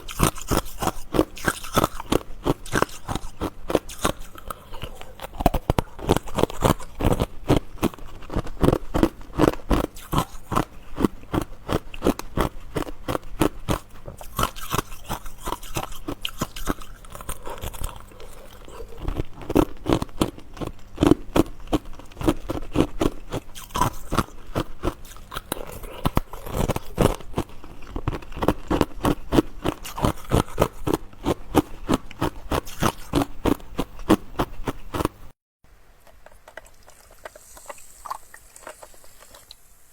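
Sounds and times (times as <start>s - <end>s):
chewing ice crunches: 0.0s - 35.3s, 36.0s - 39.6s.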